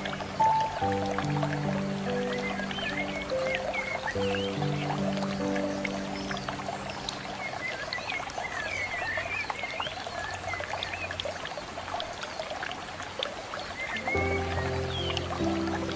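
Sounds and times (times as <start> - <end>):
birds chirping: 0.0 - 11.2, 13.6 - 15.9.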